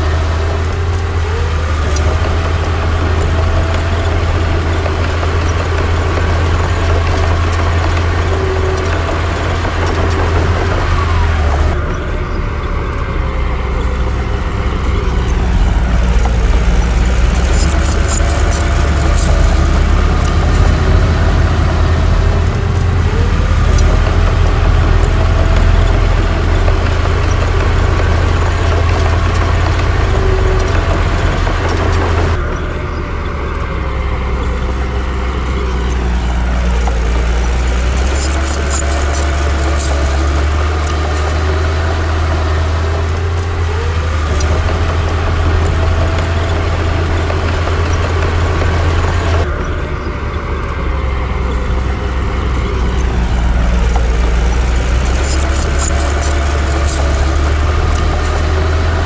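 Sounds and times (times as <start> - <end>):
bulldozer diesel engine under load: 0.0 - 59.0
engine whine: 0.0 - 59.0
rattling clicks: 0.1 - 12.0, 12.8 - 32.7, 34.3 - 49.6, 50.6 - 59.0.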